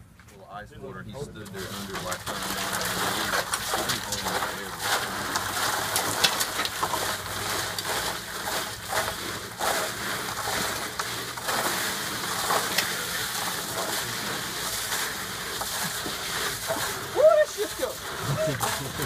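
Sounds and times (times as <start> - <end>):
water splashing: 1.2 - 19.0
ice cubes clattering into water: 1.4 - 19.0.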